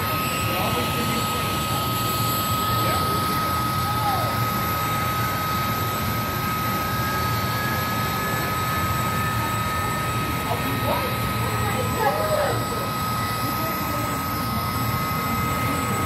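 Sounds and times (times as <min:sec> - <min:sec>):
helicopter engine and rotor noise: 0:00.0 - 0:16.0
high turbine whine: 0:00.0 - 0:16.0.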